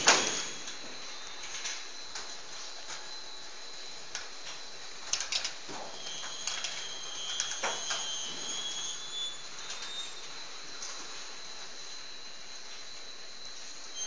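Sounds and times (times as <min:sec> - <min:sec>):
machine hiss: 0:00.0 - 0:14.0
thin high whine: 0:00.0 - 0:14.0.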